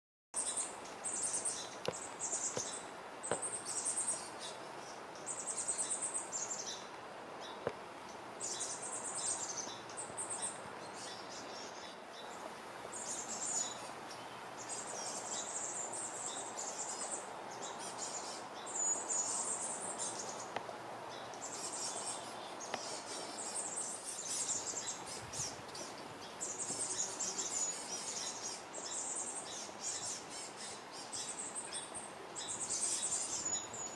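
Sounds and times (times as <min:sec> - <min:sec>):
forest ambience hiss: 0:00.4 - 0:33.9
small birds chirping: 0:00.4 - 0:33.9.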